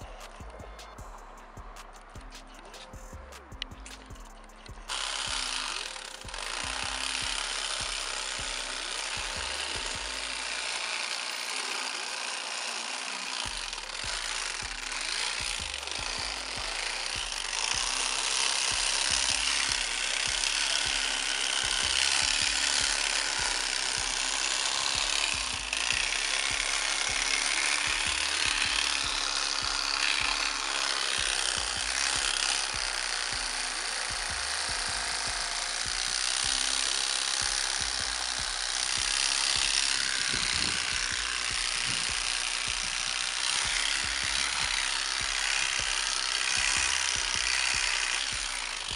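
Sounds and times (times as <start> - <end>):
background music with low beat: 0.0 - 48.9.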